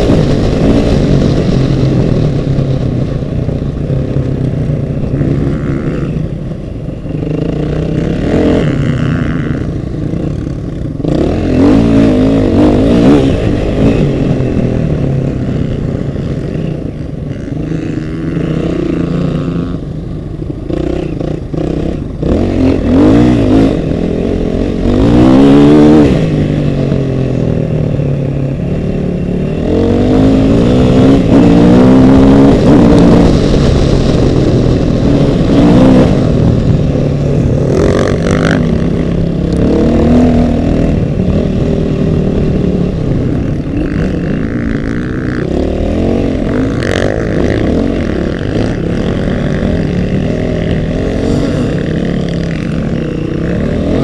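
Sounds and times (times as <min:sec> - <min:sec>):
off-road vehicle engine revving: 0:07.1 - 0:19.9, 0:20.6 - 0:28.0, 0:28.6 - 0:54.0.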